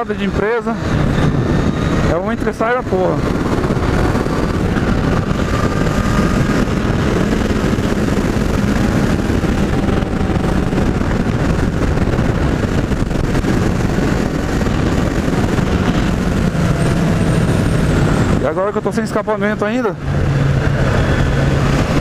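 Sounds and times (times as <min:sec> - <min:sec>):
motorcycle engine cruising: 0:00.0 - 0:22.0
wind rushing over microphone: 0:00.0 - 0:22.0.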